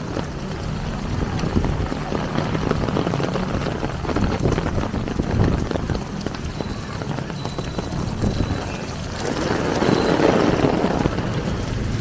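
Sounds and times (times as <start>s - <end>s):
footsteps splashing through water: 0.0s - 12.0s
heavy rain on an umbrella: 0.0s - 12.0s.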